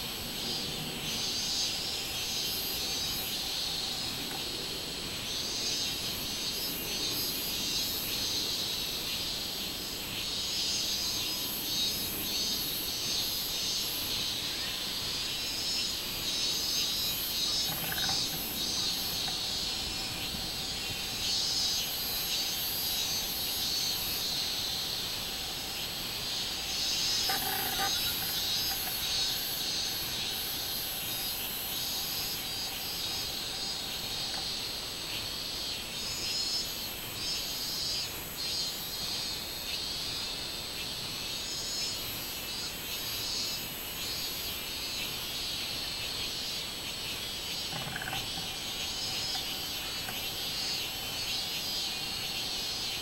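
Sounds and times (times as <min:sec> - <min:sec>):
cicadas buzzing: 0:00.0 - 0:53.0.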